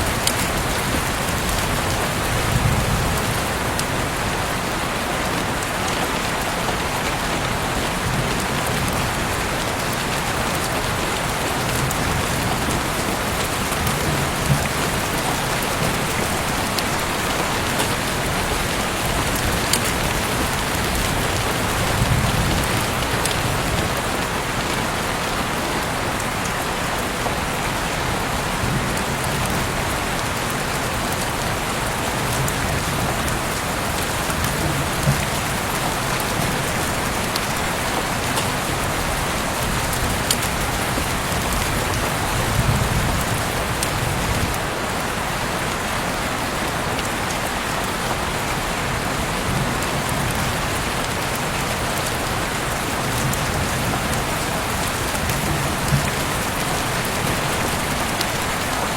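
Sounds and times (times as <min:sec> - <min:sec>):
heavy rain hissing: 0:00.0 - 0:58.9
raindrops ticking on surfaces: 0:00.0 - 0:58.9.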